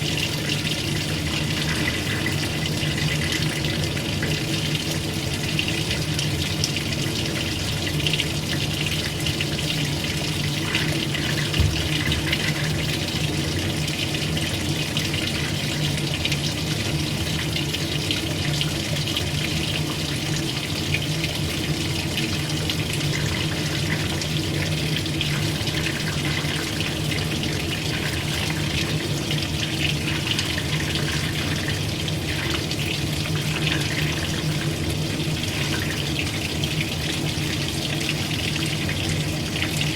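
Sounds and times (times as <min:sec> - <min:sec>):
washing machine water churning: 0:00.0 - 0:39.9.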